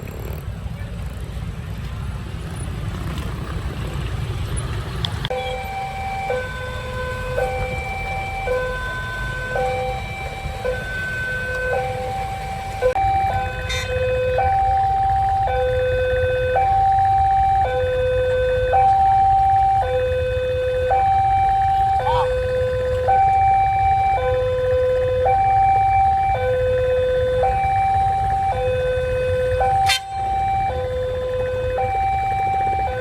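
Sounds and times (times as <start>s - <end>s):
rumble of traffic engines: 0.0s - 33.0s
level crossing two-tone alarm: 5.3s - 33.0s.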